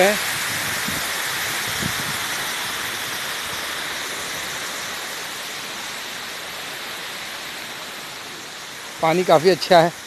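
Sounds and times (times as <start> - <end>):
water pouring over a dam: 0.0 - 10.0.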